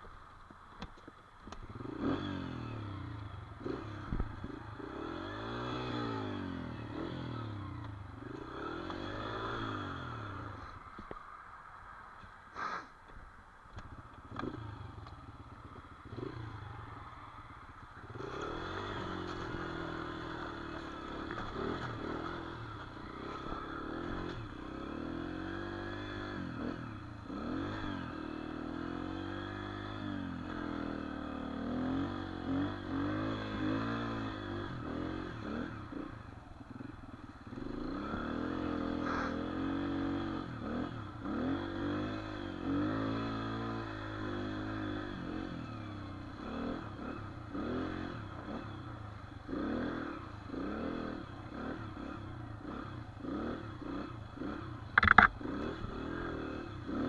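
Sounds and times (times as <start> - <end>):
dirt bike engine revving: 1.7 - 10.7, 18.0 - 57.0.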